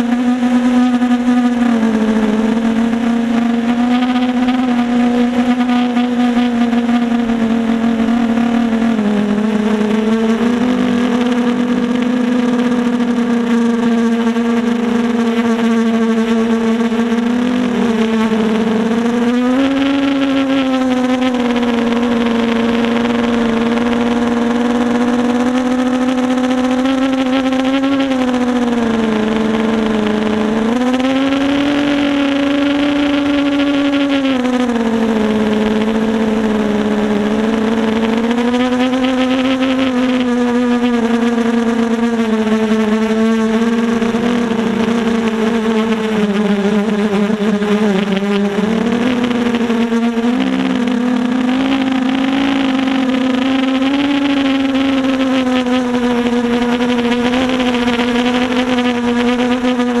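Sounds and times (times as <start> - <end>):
drone propellers whining: 0.0 - 60.0.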